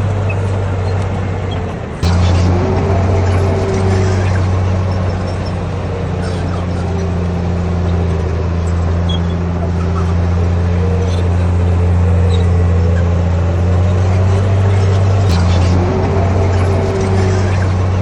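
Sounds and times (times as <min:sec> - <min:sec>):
bulldozer diesel engine running: 0:00.0 - 0:18.0
faint wavering whine: 0:02.0 - 0:18.0.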